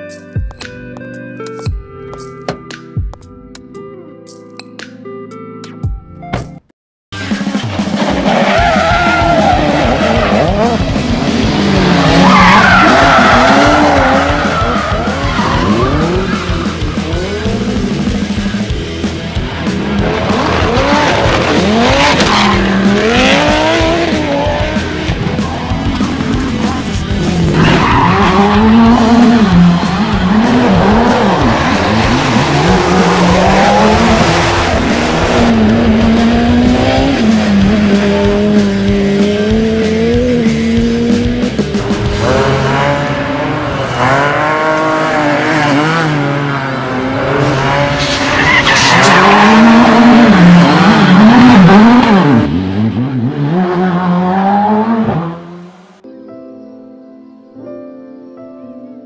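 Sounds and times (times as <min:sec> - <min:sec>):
rally car engine revving: 0:07.3 - 0:56.0
tyres skidding on dirt: 0:07.4 - 0:55.4.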